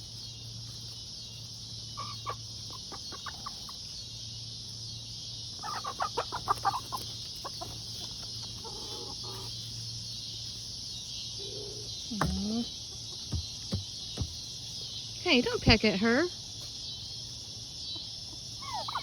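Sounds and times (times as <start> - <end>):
chickens clucking: 0.0 - 14.8, 16.6 - 19.0
crickets droning: 0.0 - 19.0.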